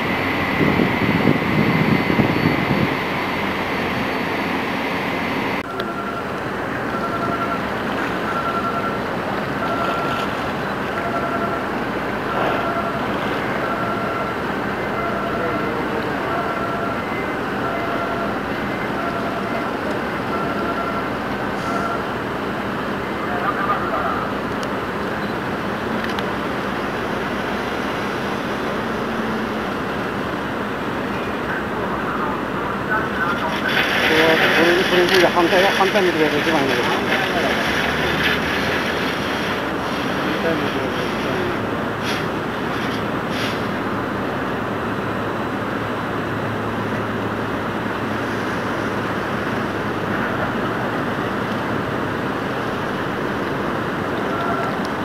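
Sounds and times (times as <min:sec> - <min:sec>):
ship machinery rumble and hiss: 0:00.0 - 0:07.0, 0:07.6 - 0:55.0.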